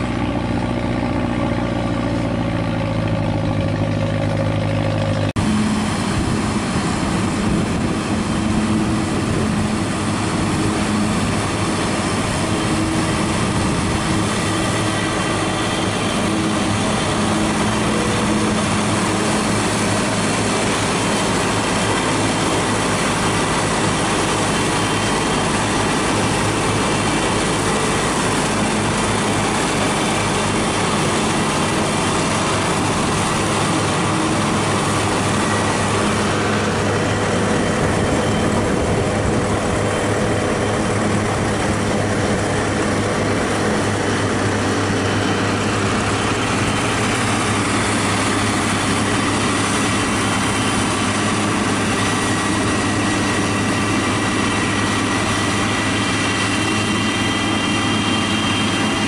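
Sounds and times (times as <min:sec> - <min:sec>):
tractor engines running: 0:00.0 - 0:59.0.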